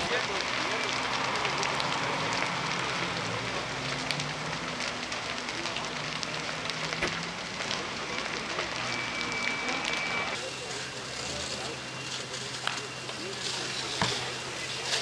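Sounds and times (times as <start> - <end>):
fire crackling and popping: 0.0 - 15.0
water jets from fire hoses: 0.0 - 15.0.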